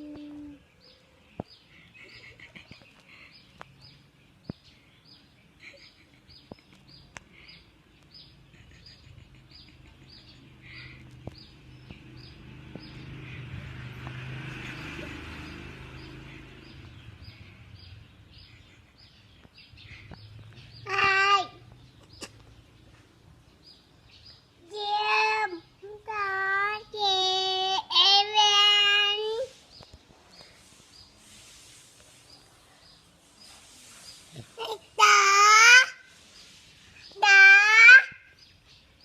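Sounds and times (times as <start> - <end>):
small bird chirping: 0.0 - 39.0.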